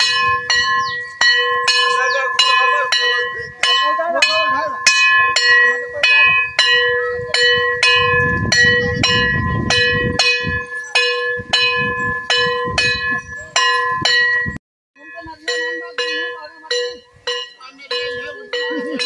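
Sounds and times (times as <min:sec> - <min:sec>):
voices murmuring: 0:00.0 - 0:12.2, 0:15.0 - 0:19.0
brass bell ringing: 0:00.0 - 0:19.0.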